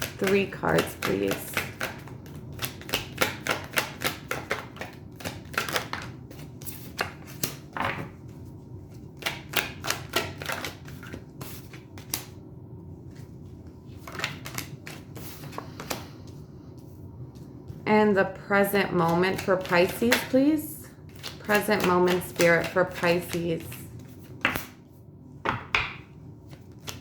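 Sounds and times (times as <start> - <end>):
cards shuffling and clicking: 0.0 - 12.4, 13.8 - 17.8, 18.6 - 20.4, 21.0 - 24.8, 25.4 - 27.0.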